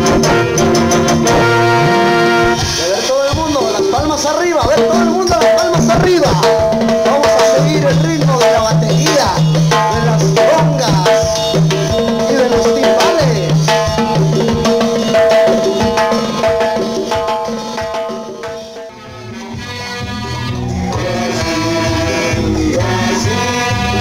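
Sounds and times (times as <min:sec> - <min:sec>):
congas and timbales: 0:00.0 - 0:24.0
live dance band playing: 0:00.0 - 0:24.0.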